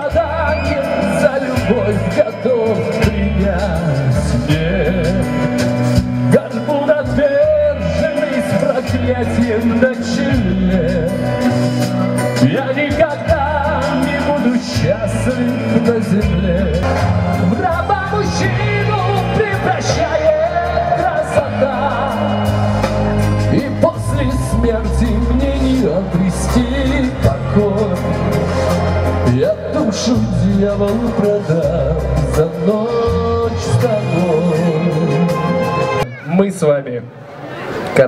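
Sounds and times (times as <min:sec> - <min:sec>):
man singing into microphone: 0:00.0 - 0:36.2
backing track with steady beat: 0:00.0 - 0:36.4.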